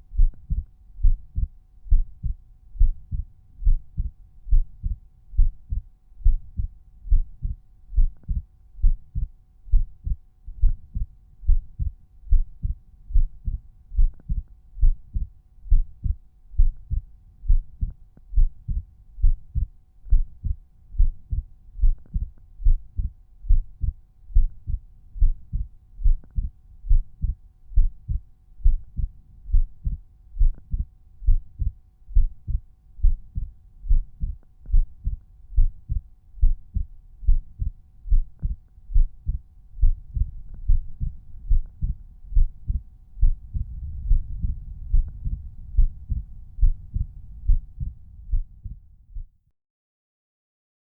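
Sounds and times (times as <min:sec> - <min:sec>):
heartbeat lub-dub: 0:00.0 - 0:49.4.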